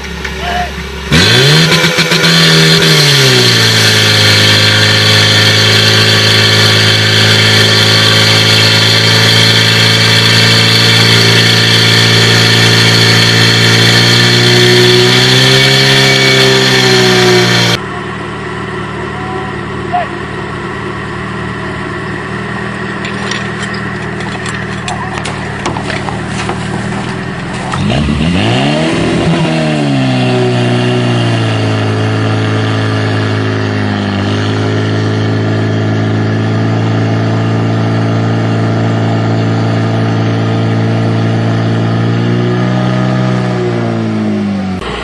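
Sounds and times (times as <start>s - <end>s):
pump engine running: 0.0s - 29.3s, 30.7s - 43.5s.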